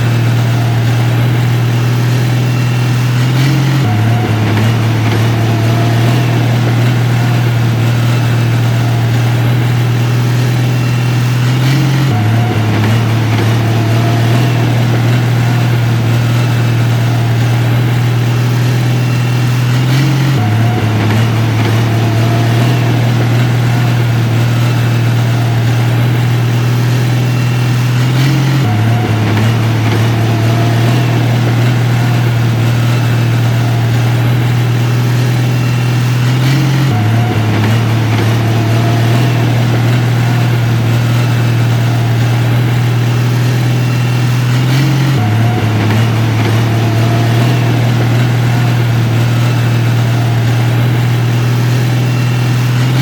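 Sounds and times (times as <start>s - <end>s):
heavy diesel engine humming: 0.0s - 53.0s.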